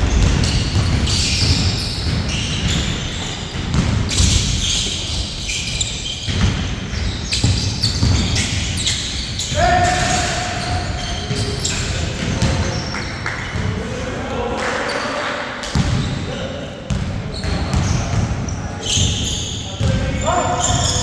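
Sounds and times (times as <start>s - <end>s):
basketball bouncing on court: 0.0s - 13.9s, 15.7s - 16.2s, 16.9s - 21.0s
players' voices echoing: 0.0s - 21.0s.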